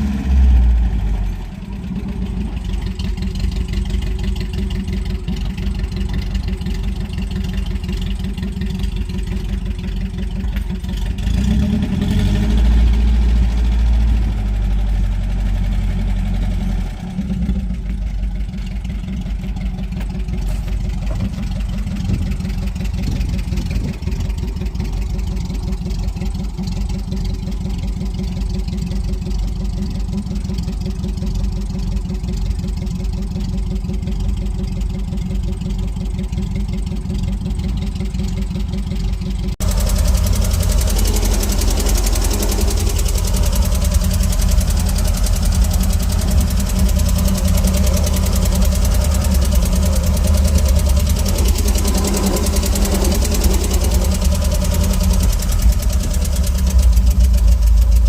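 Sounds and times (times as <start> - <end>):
van engine idling: 0.0 - 58.0.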